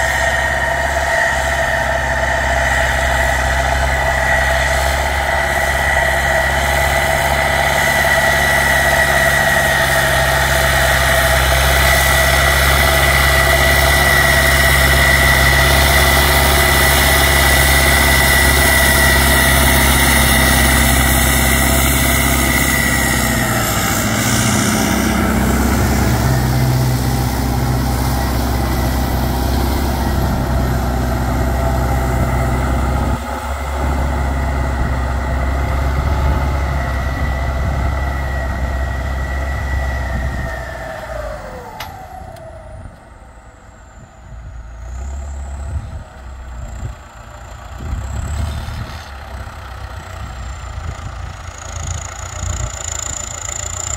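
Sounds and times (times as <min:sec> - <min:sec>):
high turbo whistle: 0:00.0 - 0:46.0
tractor diesel engine running hard: 0:00.0 - 0:53.9.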